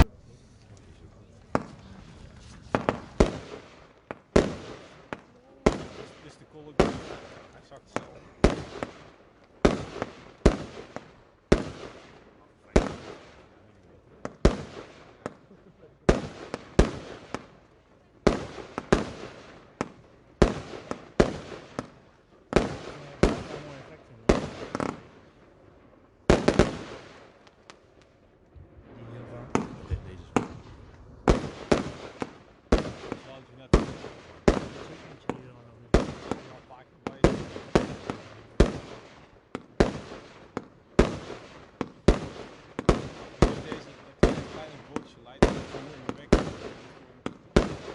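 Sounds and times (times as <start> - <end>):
crackling firework tail: 0.0 - 47.9
loud firework bangs: 1.4 - 13.6, 14.2 - 47.9
sharp firework cracks: 1.4 - 13.6, 14.2 - 47.9.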